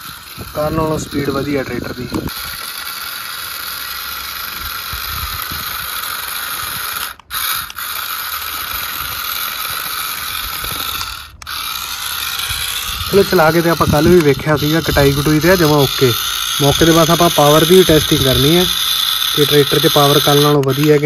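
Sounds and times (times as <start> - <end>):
toy tractor motor whirring: 0.0 - 21.0.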